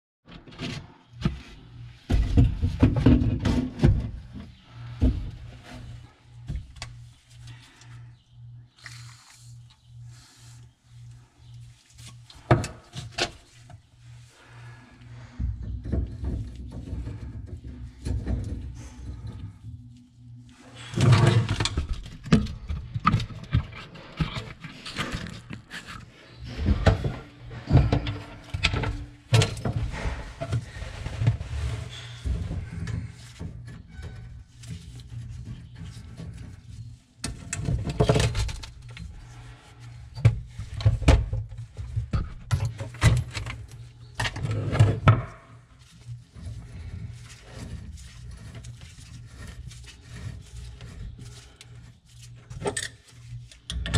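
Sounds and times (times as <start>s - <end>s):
low steady hum: 0.3s - 53.9s.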